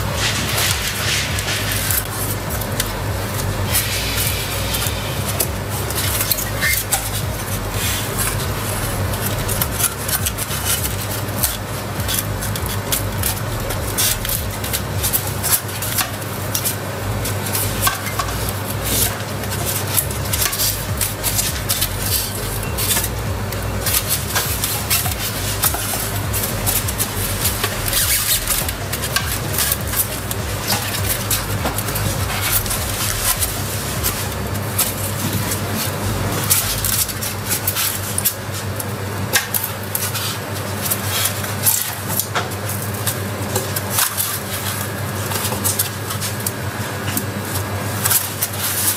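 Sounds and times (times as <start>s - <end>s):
polystyrene foam squeaking and crackling: 0.0s - 48.9s
steady low hum: 0.0s - 48.9s.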